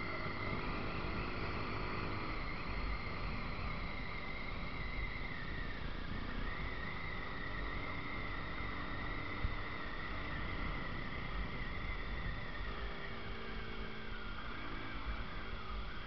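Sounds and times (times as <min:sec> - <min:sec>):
steady high whine: 0:00.0 - 0:16.0
wind and road noise: 0:00.0 - 0:16.0.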